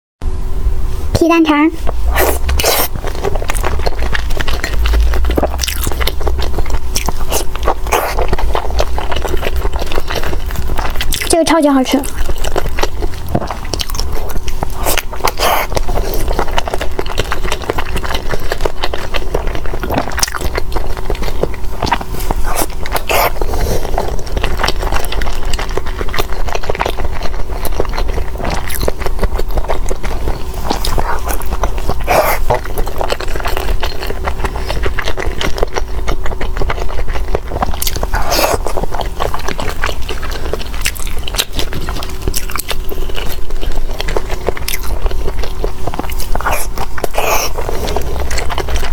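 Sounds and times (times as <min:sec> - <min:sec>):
biting and chewing: 0:01.8 - 0:48.9.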